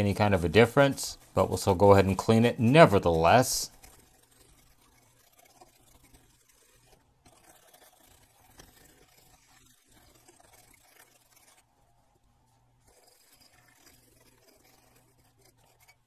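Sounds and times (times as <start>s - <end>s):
brush scrubbing circuit board: 0.0s - 16.0s.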